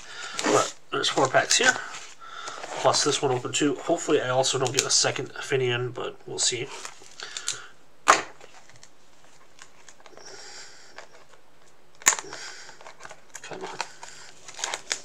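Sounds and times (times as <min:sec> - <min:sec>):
packaging rustling: 0:00.0 - 0:04.0, 0:06.7 - 0:15.0.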